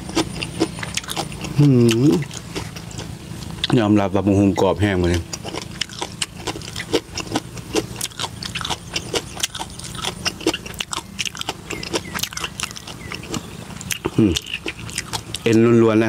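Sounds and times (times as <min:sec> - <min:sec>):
crunchy chewing: 0:00.0 - 0:15.8
low steady hum: 0:00.0 - 0:16.0.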